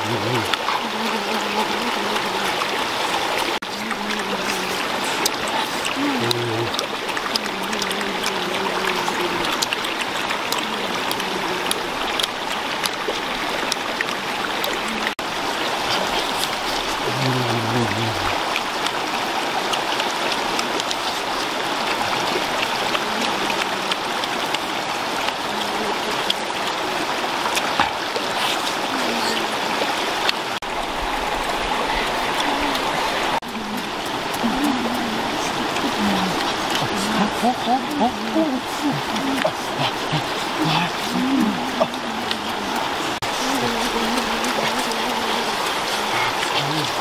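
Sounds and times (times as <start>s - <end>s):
stream rushing over stones: 0.0s - 47.0s.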